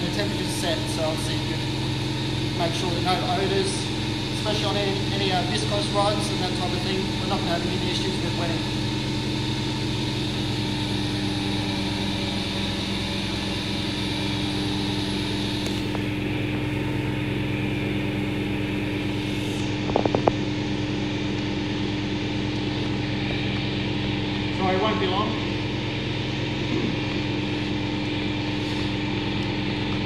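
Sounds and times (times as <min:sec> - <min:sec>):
centrifuge spinning with hum: 0:00.0 - 0:30.0.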